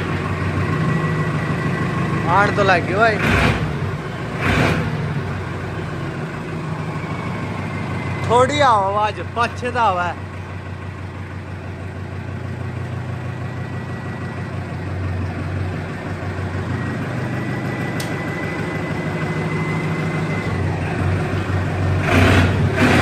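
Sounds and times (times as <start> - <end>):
diesel tractor engine idling: 0.0 - 23.0.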